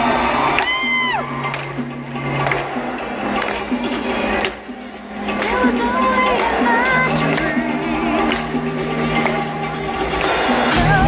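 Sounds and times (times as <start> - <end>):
live pop music: 0.0 - 11.0.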